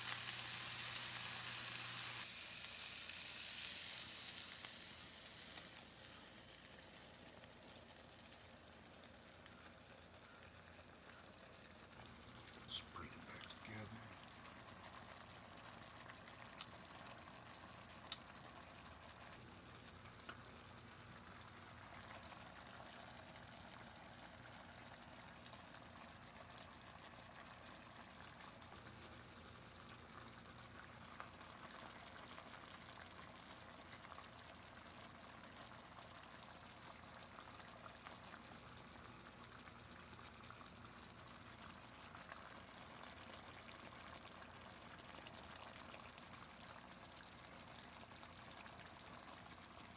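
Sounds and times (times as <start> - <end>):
gravy bubbling in a pan: 0.0 - 49.9.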